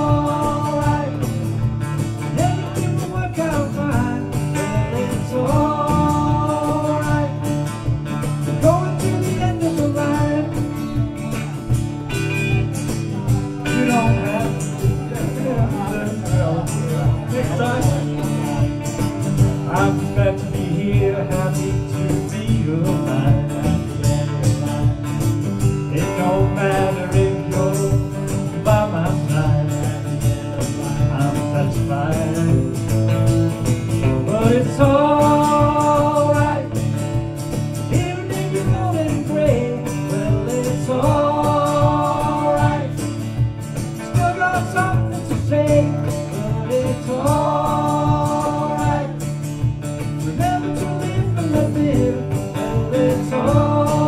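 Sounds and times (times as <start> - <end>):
man singing into microphone: 0.0 - 1.6, 2.2 - 11.2, 13.3 - 25.0, 25.7 - 43.4, 44.0 - 49.6, 50.2 - 54.0
acoustic guitar strumming: 0.0 - 54.0.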